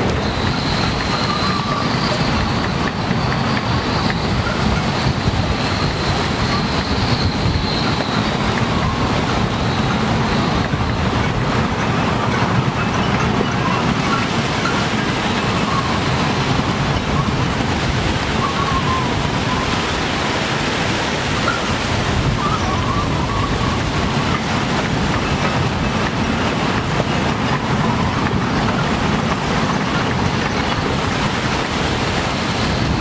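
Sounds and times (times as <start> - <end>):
strong wind blowing: 0.0 - 33.0
wavering wind whistle: 0.0 - 33.0.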